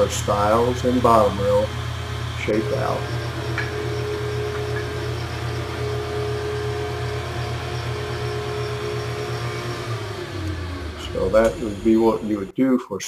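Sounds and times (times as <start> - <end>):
spindle shaper motor humming: 0.0 - 12.5.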